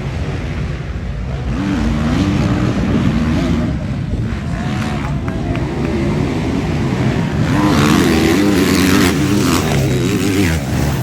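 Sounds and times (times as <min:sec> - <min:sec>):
motorcycle engines revving: 0:01.2 - 0:11.0.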